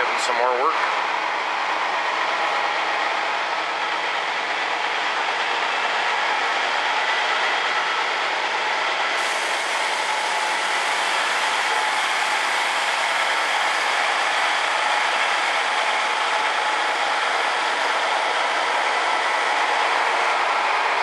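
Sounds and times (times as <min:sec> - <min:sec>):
machinery running: 0:00.0 - 0:21.0.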